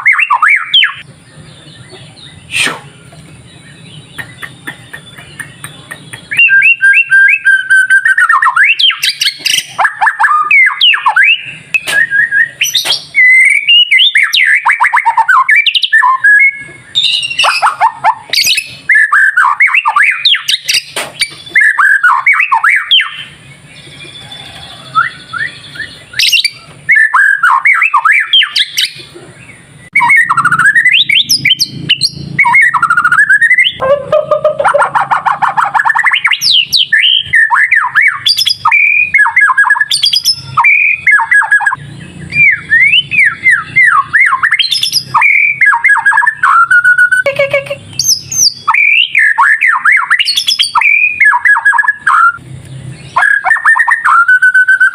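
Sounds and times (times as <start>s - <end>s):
songbird singing whistles and trills: 0.0s - 29.1s, 29.8s - 54.9s.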